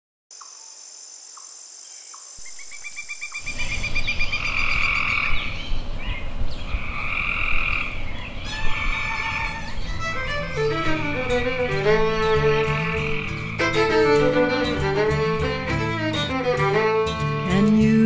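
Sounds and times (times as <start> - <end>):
frogs calling: 0.3 - 15.3.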